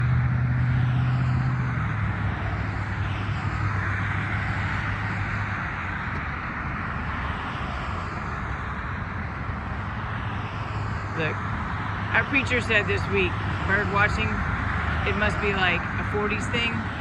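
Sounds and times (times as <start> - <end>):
engine drone passing: 0.0 - 17.0.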